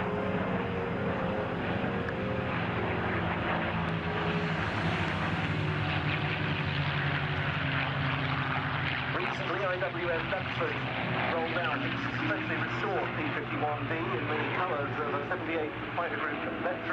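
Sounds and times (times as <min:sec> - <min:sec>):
propeller plane engine droning: 0:00.0 - 0:16.9.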